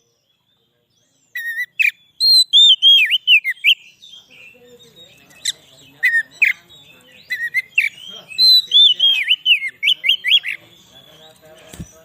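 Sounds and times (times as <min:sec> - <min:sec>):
bird whistling song: 0:00.0 - 0:12.0.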